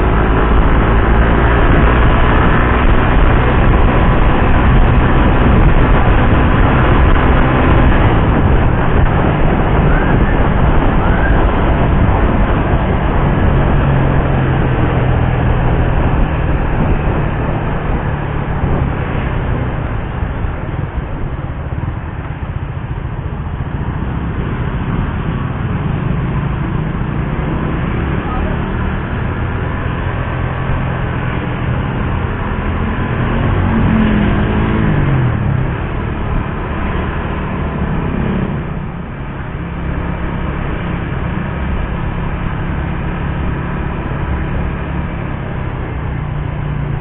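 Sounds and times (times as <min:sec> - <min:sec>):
motorcycle engine running: 0:00.0 - 0:47.0
wind rushing noise: 0:00.0 - 0:47.0.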